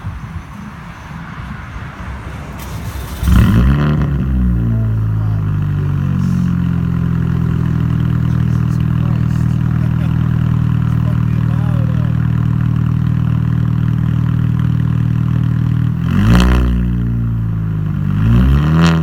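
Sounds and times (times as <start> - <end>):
car engine revving and idling: 0.6 - 19.0.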